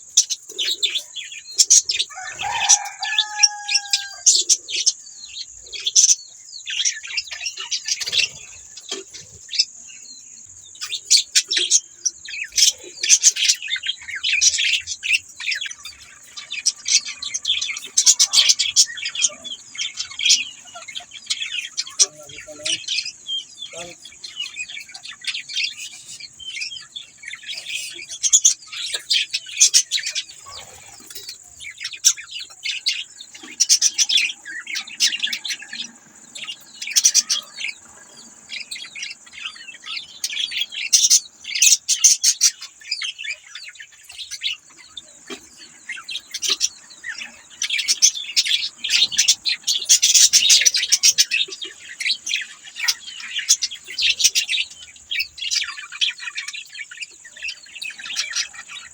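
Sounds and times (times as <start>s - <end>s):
budgerigars chirping and chattering: 0.0s - 58.9s.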